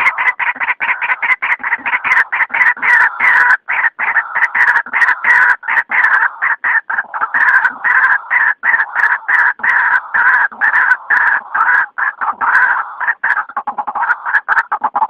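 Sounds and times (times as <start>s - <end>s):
waterhen harsh repeated calls: 0.0s - 15.0s.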